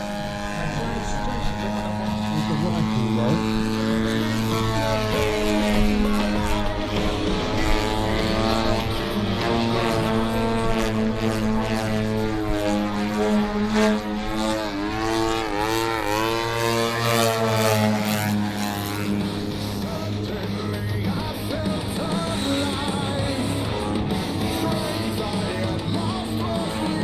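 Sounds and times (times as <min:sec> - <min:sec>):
model plane engine in flight: 0:00.0 - 0:27.0
rock music with singing: 0:00.0 - 0:27.0.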